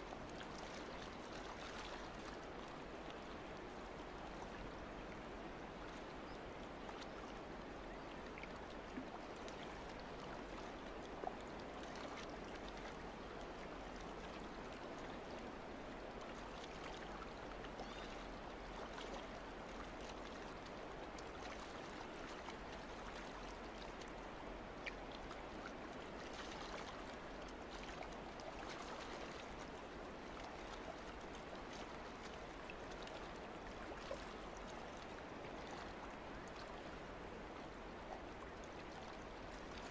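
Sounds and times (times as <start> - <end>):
water lapping against boat hull: 0.0 - 4.5, 6.8 - 39.9.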